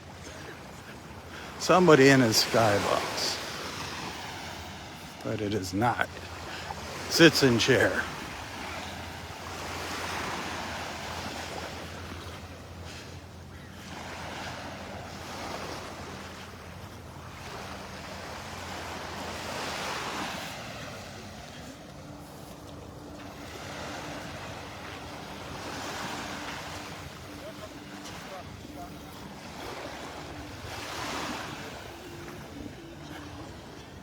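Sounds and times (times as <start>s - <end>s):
waves breaking on beach: 0.0s - 34.0s.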